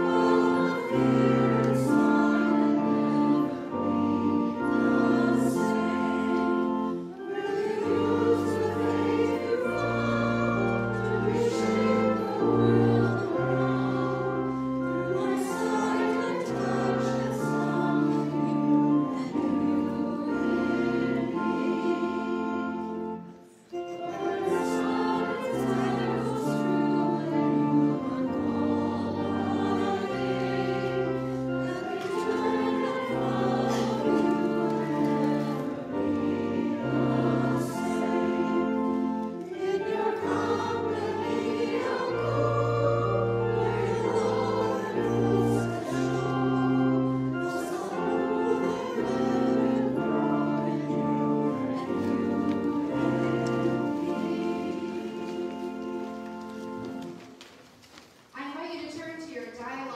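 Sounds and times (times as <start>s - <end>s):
hymn singing: 0.0s - 59.9s.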